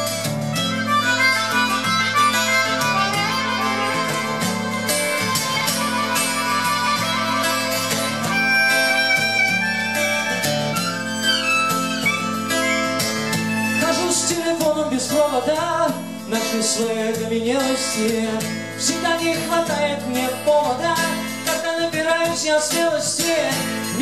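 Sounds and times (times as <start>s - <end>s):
harmonica melody: 0.0s - 21.7s
strummed acoustic guitar: 0.0s - 24.0s.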